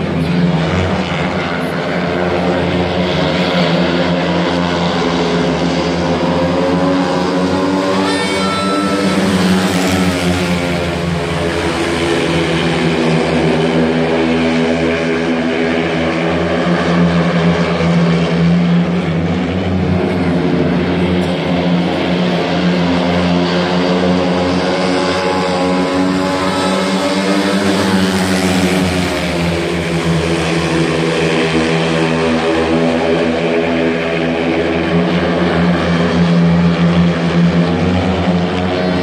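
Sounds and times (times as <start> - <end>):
motorcycles racing: 0.0 - 39.0.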